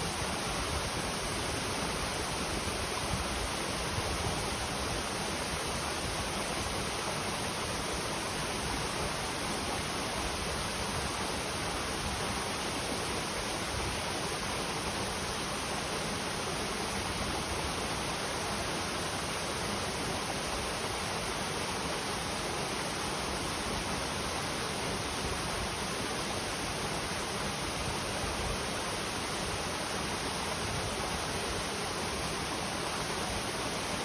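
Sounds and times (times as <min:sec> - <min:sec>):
stream flowing over rocks: 0:00.0 - 0:34.0.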